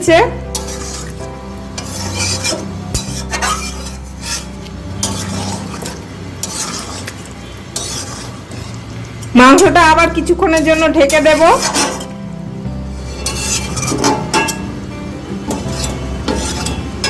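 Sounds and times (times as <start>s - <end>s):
utensil scraping a pan: 0.5s - 9.2s, 10.6s - 12.2s, 12.8s - 14.8s, 15.4s - 17.0s
light sizzle of meat: 0.5s - 17.0s.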